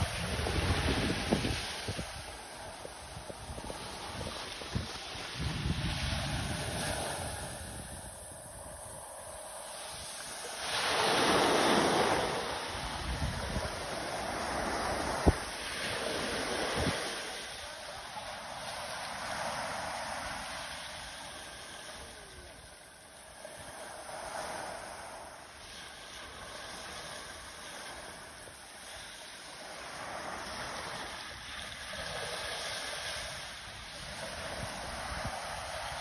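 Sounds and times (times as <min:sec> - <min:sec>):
sea waves washing on beach: 0:00.0 - 0:36.0.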